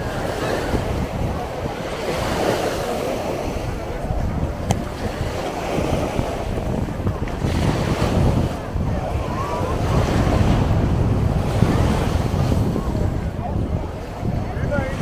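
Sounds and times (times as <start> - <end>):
sea waves washing onto beach: 0.0 - 15.0
wind on microphone: 0.0 - 15.0.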